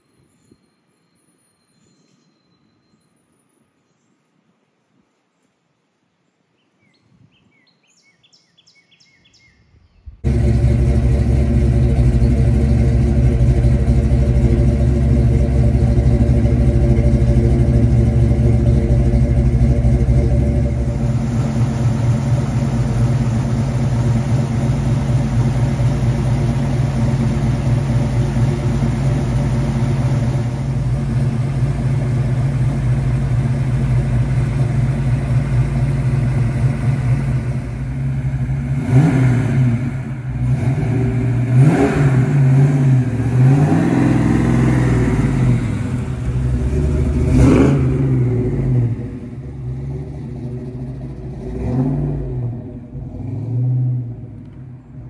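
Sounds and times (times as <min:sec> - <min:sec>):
car engine idling: 0:10.2 - 0:53.4, 0:54.0 - 0:55.0
car engine revving: 0:10.2 - 0:54.8.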